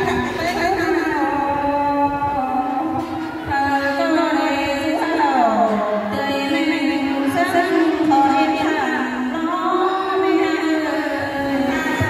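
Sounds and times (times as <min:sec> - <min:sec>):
women singing through microphones: 0:00.0 - 0:12.0.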